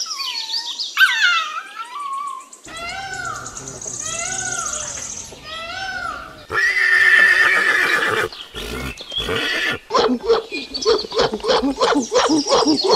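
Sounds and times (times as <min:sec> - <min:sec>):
animal calls: 0:01.0 - 0:12.9.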